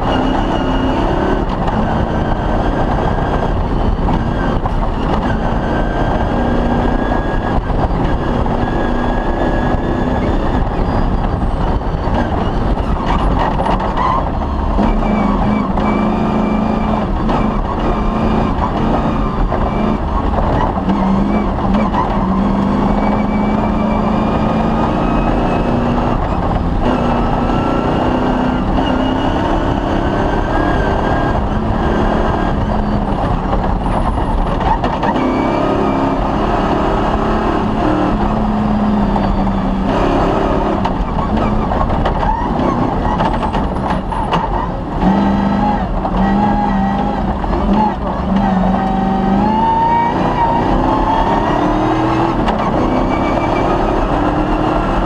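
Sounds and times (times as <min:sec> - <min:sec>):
rally car engine revving: 0:00.0 - 0:55.0
vehicle rattling on rough ground: 0:00.0 - 0:55.0.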